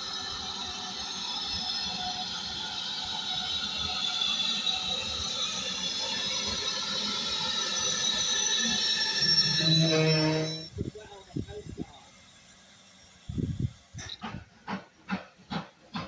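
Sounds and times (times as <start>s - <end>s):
train passing: 0.0s - 16.0s
wheels ringing on rails: 0.0s - 16.0s.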